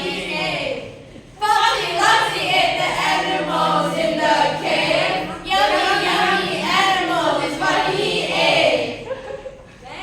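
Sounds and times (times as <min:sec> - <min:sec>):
children singing in unison: 0:00.0 - 0:09.0.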